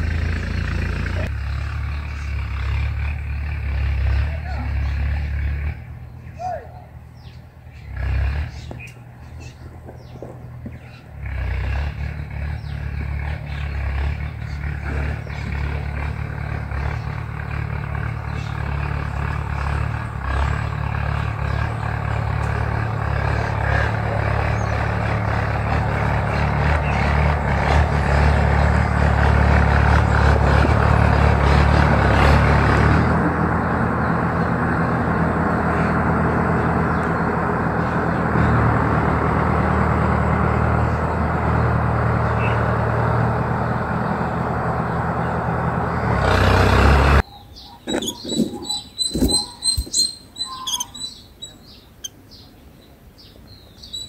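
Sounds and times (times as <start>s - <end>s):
engine rumble: 0.0s - 54.0s.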